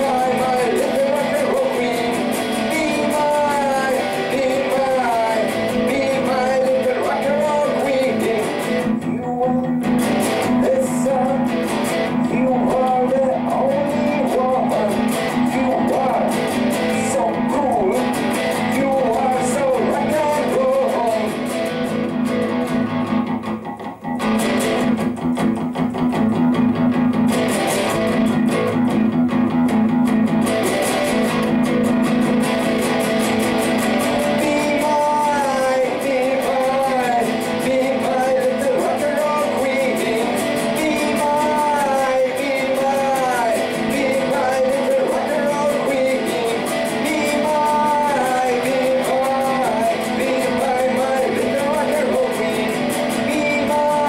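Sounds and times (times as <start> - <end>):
man singing: 0.0 - 23.4, 31.0 - 54.0
heavy rock electric guitar: 0.0 - 54.0.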